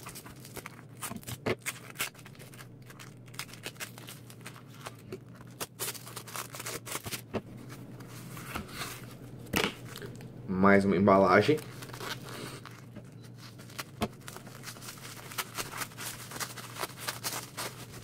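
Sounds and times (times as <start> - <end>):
plastic packaging crinkling: 0.0 - 10.5, 11.4 - 18.0.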